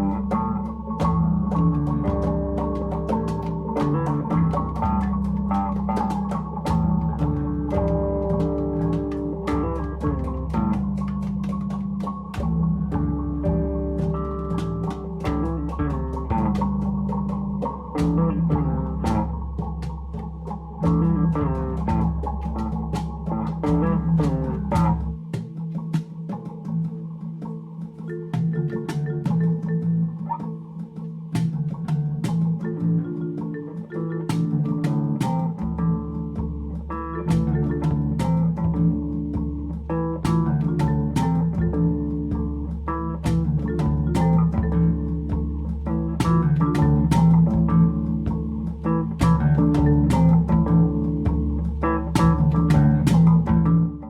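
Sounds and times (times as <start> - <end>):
steady drum beat: 0.0 - 26.1, 34.3 - 54.0
bass guitar line: 0.0 - 54.0
plucked guitar: 0.0 - 54.0.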